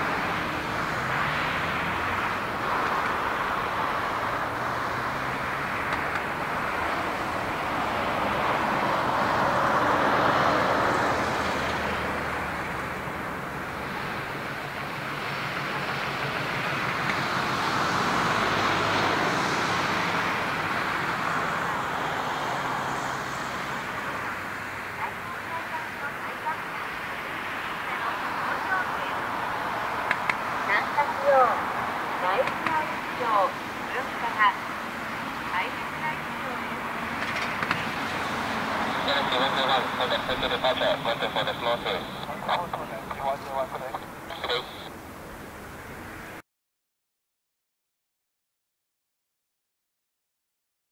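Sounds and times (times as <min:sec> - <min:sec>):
jet engines roaring: 0:00.0 - 0:22.9, 0:23.5 - 0:46.1.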